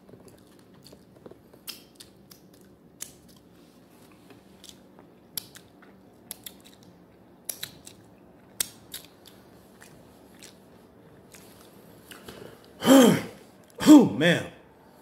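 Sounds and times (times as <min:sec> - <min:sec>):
chewing crunches: 0:00.0 - 0:12.6.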